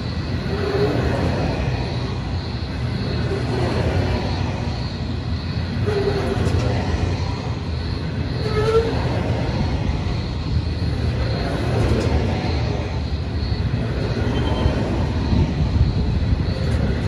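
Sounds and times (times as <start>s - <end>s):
train wagons rumbling on rails: 0.0s - 17.0s.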